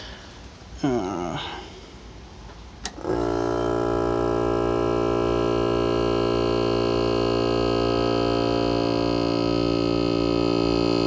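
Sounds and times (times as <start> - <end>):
compressor electric hum: 0.0 - 11.0.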